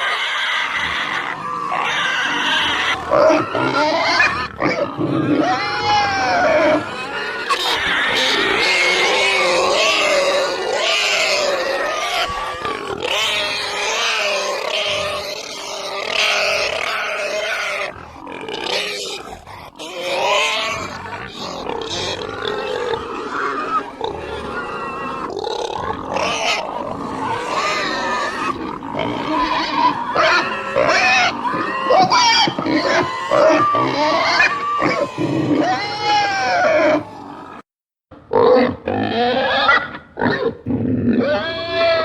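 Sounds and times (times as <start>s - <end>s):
pigs snorting and grunting: 0.0s - 37.6s, 38.2s - 42.0s
pigs squealing: 0.0s - 37.6s, 38.3s - 42.0s.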